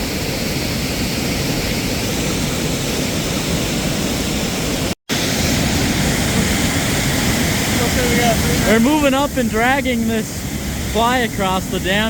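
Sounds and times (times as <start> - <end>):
water rushing over small dam: 0.0 - 12.0.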